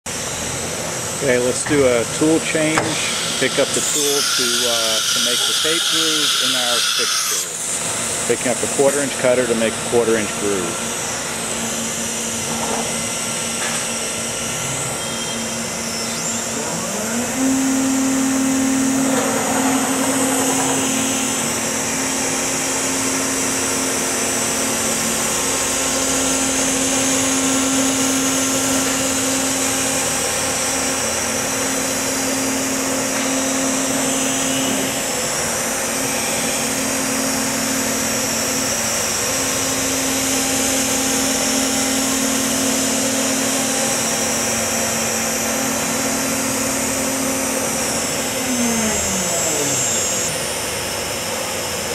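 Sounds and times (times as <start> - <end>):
router spindle whining: 0.1 - 51.9.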